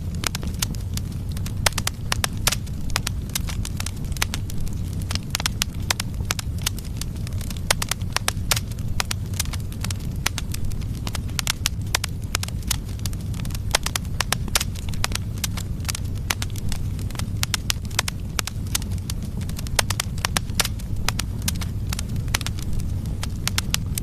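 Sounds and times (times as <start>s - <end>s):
logs crackling and popping: 0.0s - 24.0s
low rumble of flames: 0.0s - 24.0s.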